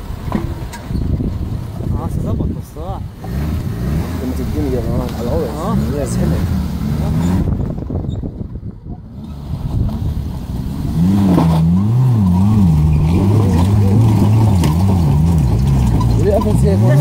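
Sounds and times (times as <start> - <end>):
jeep engine revving: 1.2 - 17.0.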